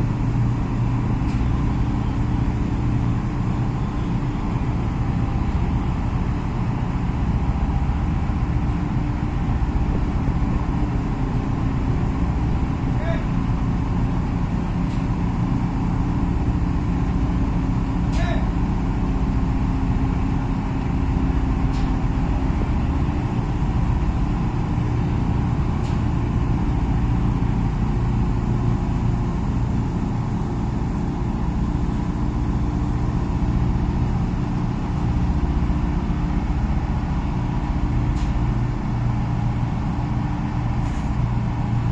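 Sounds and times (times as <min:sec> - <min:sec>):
tugboat engine droning: 0:00.0 - 0:41.9.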